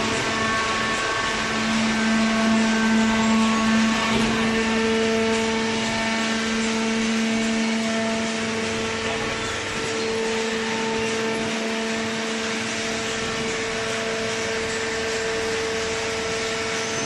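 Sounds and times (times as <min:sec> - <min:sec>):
electric motor and pump humming: 0:00.0 - 0:17.0.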